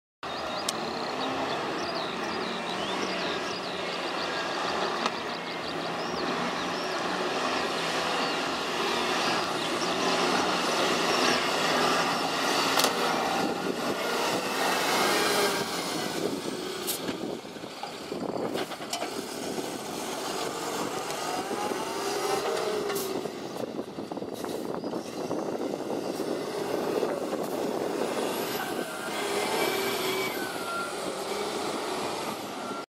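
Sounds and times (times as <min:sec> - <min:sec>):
truck diesel engines revving: 0:00.2 - 0:32.9.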